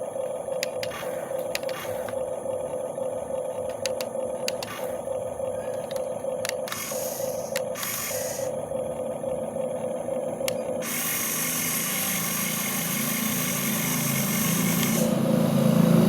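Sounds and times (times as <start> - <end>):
electric motors whining: 0.0 - 16.0
gear clicks: 0.4 - 2.7, 3.4 - 9.1, 9.8 - 15.0.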